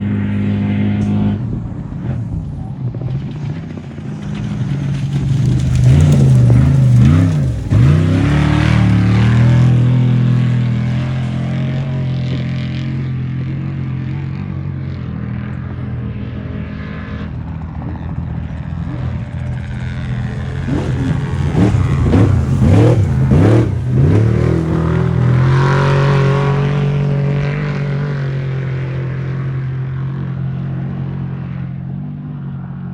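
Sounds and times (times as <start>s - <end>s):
truck engine revving: 0.0s - 31.5s.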